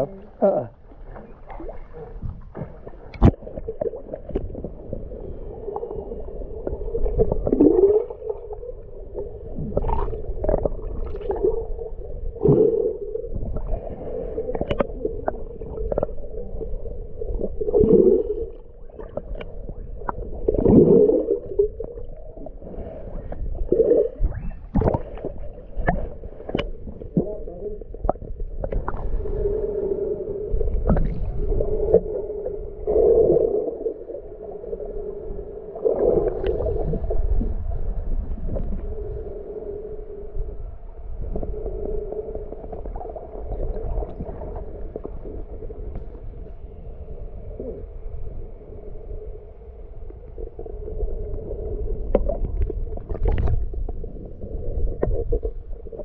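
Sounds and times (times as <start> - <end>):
deep gurgles: 0.0 - 49.2, 50.4 - 56.0
water sloshing over microphone: 0.0 - 56.0.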